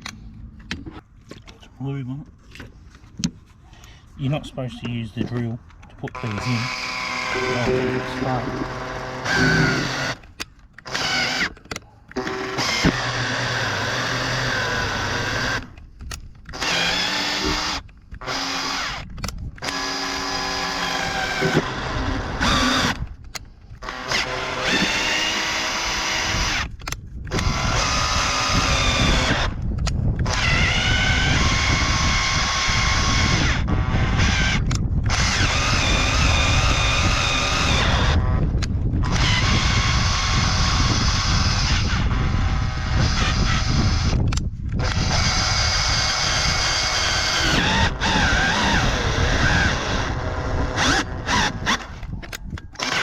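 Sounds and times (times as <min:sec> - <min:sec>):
drill motor whining: 0:06.0 - 0:15.8, 0:16.4 - 0:53.0.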